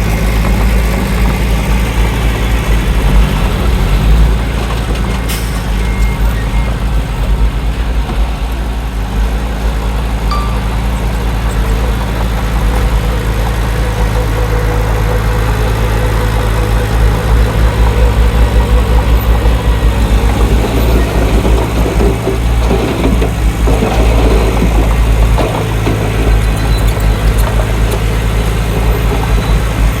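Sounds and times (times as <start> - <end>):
heavy diesel engine rumbling: 0.0 - 30.0.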